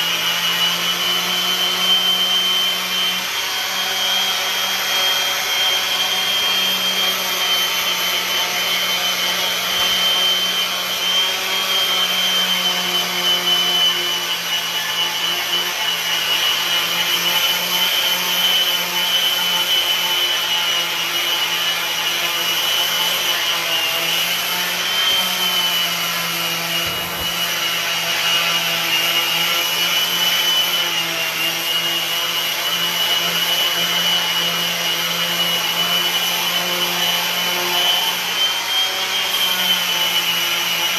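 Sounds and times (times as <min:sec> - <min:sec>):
power sander on wood: 0:00.0 - 0:40.9.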